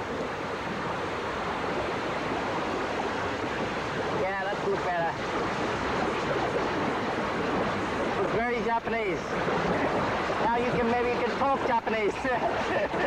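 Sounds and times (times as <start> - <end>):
water rushing: 0.0 - 13.0
wind noise on microphone: 0.0 - 13.0.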